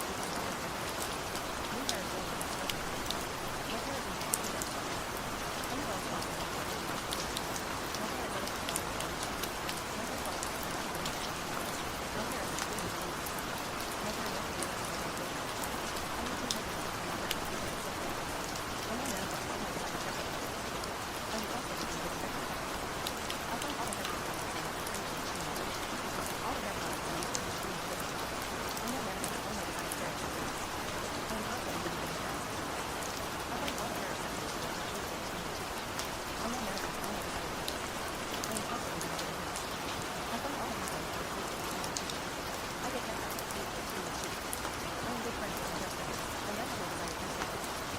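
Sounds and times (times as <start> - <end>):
rain falling: 0.0 - 47.9
raindrops ticking: 0.0 - 47.9.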